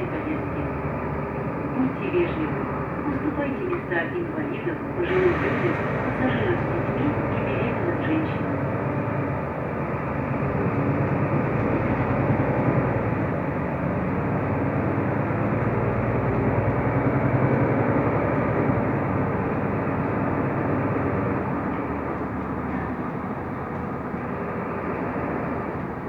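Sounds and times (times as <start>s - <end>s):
bus engine running inside cabin: 0.0s - 26.0s.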